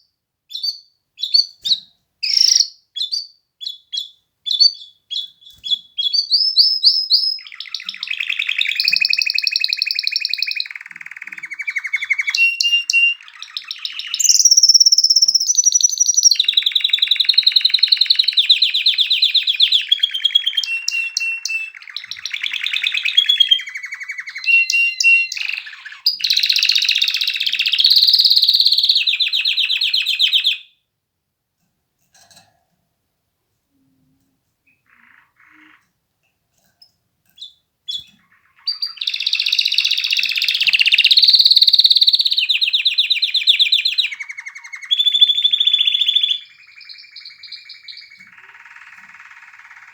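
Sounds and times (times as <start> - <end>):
canary singing trills: 0.0 - 30.8, 34.7 - 35.9, 36.8 - 49.9.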